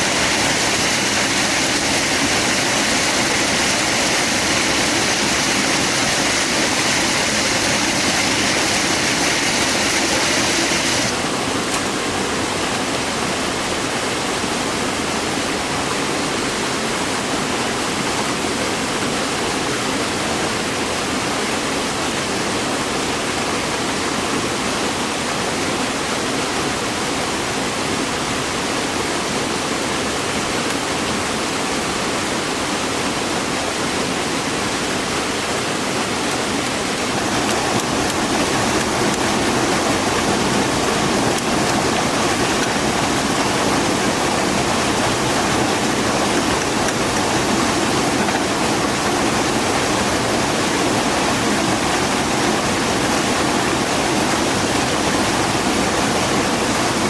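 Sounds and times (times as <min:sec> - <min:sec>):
waterfall rushing: 0:00.0 - 0:23.8, 0:28.6 - 0:57.0.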